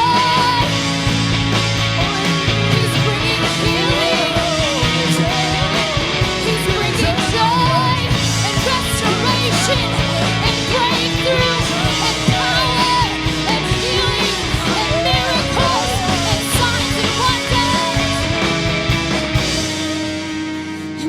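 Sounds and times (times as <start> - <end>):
bass and drums: 0.0 - 21.0
electric guitar: 0.0 - 21.0
person singing: 0.0 - 21.0.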